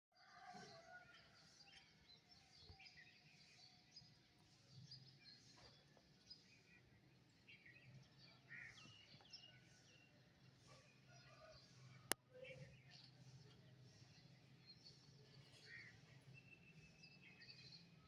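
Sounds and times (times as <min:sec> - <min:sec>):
small birds chirping: 0:00.8 - 0:18.0.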